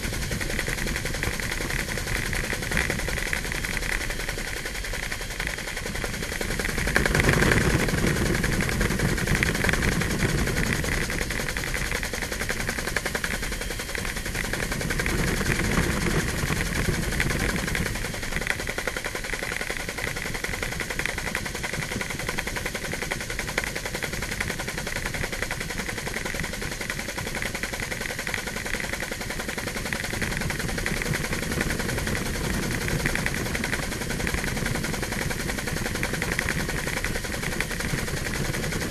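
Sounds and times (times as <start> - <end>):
helicopter engine drone: 0.0 - 38.9
helicopter rotor blades chopping: 0.0 - 38.9.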